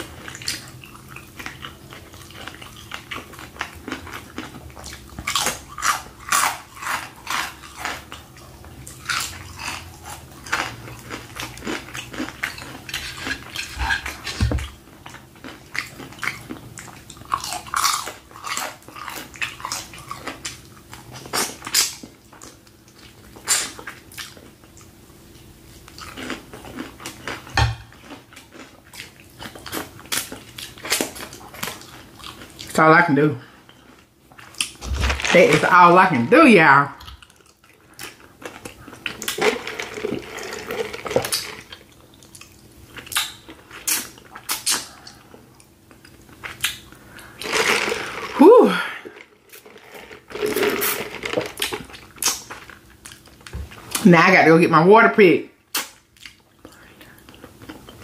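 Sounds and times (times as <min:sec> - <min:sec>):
chewing crispy fried chicken: 0:00.0 - 0:35.9, 0:36.9 - 0:54.1, 0:55.5 - 0:58.0.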